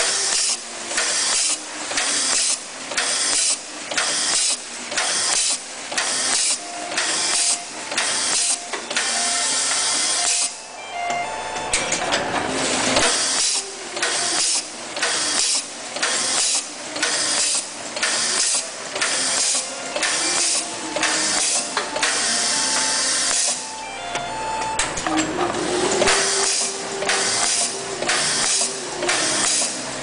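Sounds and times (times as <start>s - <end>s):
bursts of hissing air: 0.0s - 10.6s, 12.9s - 23.6s, 26.1s - 29.9s
machine running through its cycle: 0.0s - 10.8s, 11.7s - 23.9s, 24.8s - 30.0s.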